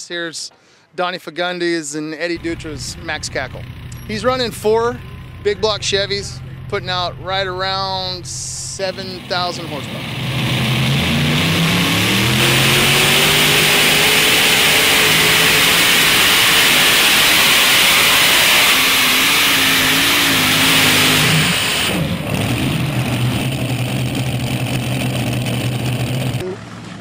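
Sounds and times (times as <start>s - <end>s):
tractor engines at full throttle: 2.4s - 27.0s.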